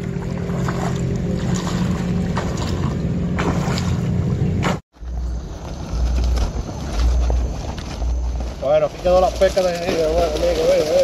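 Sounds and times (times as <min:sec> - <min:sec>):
splashing in shallow water: 0:00.0 - 0:11.0
steady low hum: 0:00.0 - 0:11.0
wind rumbling on microphone: 0:00.0 - 0:11.0.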